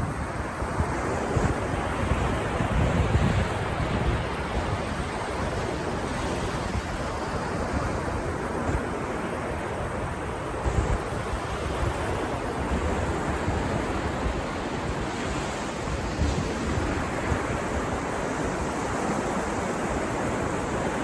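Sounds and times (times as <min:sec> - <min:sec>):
ocean surf washing ashore: 0:00.0 - 0:21.0
wind rumbling on microphone: 0:00.0 - 0:21.0.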